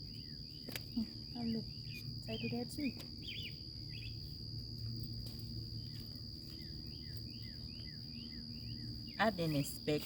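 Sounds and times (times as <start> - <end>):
birds chirping: 0.0 - 10.0
insects trilling: 0.0 - 10.0.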